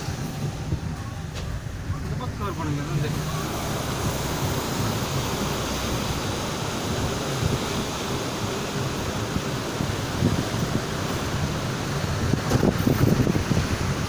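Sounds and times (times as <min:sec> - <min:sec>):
heavy rainstorm: 0:00.0 - 0:14.0
strong wind buffeting: 0:00.0 - 0:14.0.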